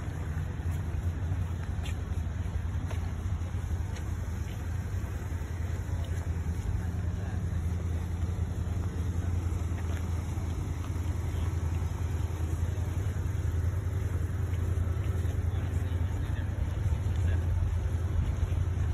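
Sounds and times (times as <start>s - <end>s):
slow road traffic rumble: 0.0s - 18.9s.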